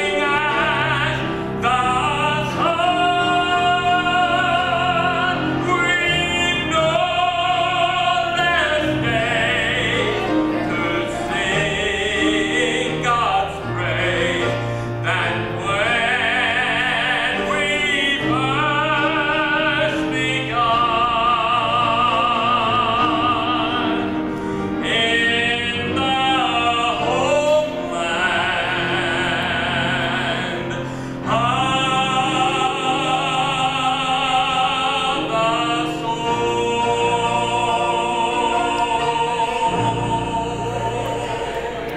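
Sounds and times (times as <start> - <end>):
instrumental accompaniment: 0.0 - 41.9
man singing with vibrato: 0.0 - 41.9.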